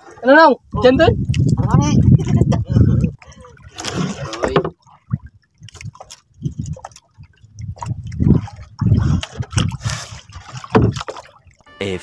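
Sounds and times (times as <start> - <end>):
water slapping against boat hull: 0.0 - 11.6.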